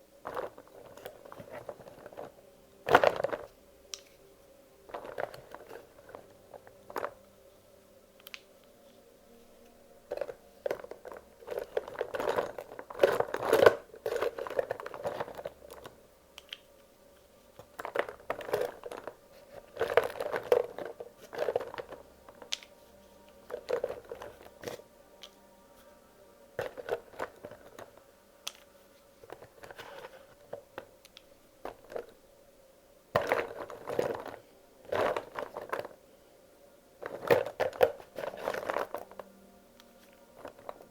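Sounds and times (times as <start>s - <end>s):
crayons clicking and clattering: 0.2s - 4.2s, 4.8s - 7.3s, 8.2s - 9.0s, 9.6s - 25.4s, 26.5s - 32.2s, 33.1s - 36.1s, 37.0s - 40.9s.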